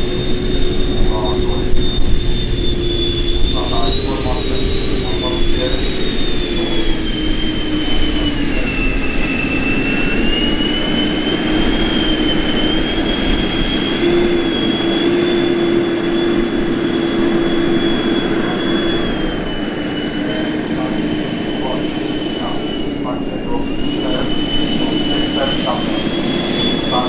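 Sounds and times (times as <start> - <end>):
electric ducted fans whining: 0.0 - 27.0.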